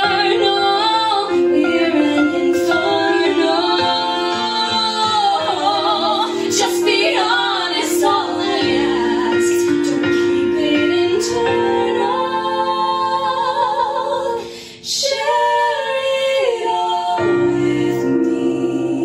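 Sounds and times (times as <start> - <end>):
musical accompaniment: 0.0 - 19.0
woman singing with vibrato: 0.0 - 19.0.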